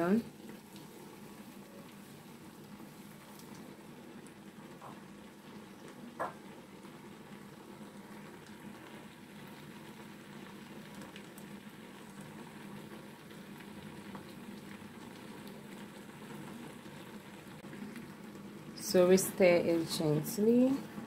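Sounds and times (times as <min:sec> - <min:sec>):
stew bubbling in a pan: 0:00.0 - 0:21.0.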